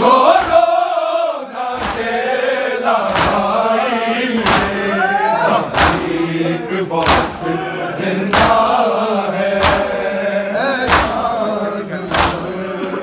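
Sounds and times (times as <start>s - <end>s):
crowd beating chests in unison: 0.0s - 13.0s
men chanting a lament: 0.0s - 13.0s.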